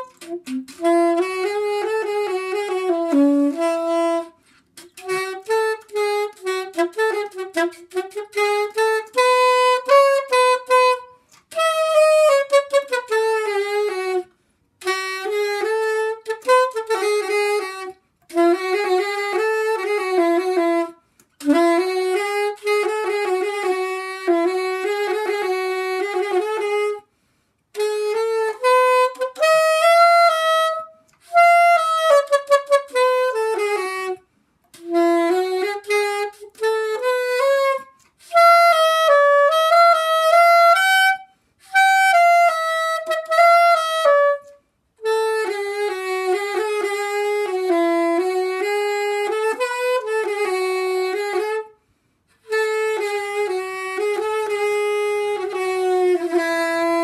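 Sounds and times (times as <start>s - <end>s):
soprano saxophone solo: 0.0s - 57.0s.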